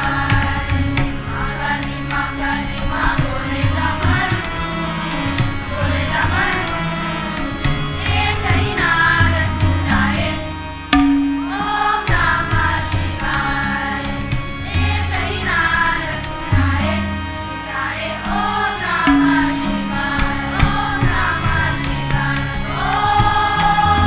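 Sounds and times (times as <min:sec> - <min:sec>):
percussion: 0:00.0 - 0:24.0
sharp percussion stroke: 0:00.0 - 0:24.0
voices singing devotional song: 0:00.0 - 0:24.0.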